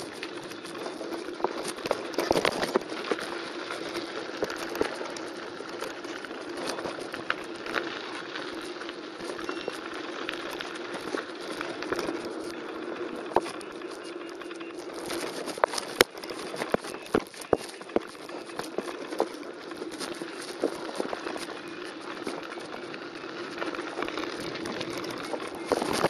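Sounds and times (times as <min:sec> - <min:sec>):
bike rattling and knocking: 0:00.0 - 0:26.0
tyres crunching over gravel: 0:00.0 - 0:26.0.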